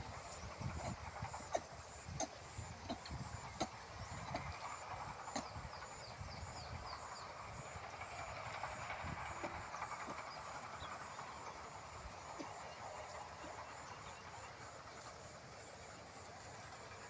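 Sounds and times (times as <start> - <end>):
rustling hiss and low rumble: 0.0 - 17.0.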